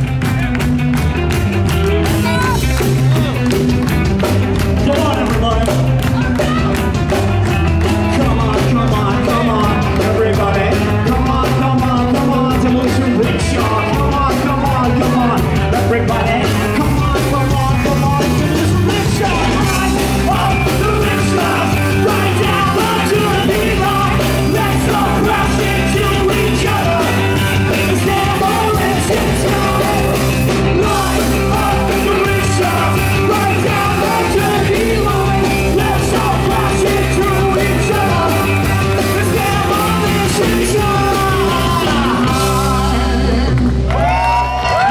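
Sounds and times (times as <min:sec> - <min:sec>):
rock band playing: 0:00.0 - 0:44.9
singer yelling and singing: 0:01.8 - 0:03.5, 0:04.6 - 0:44.9.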